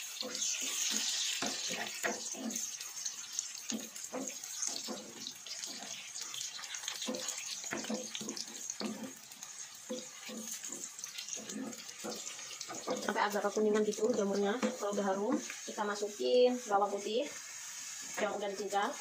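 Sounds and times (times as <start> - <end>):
mushrooms frying in fat: 0.0 - 19.0.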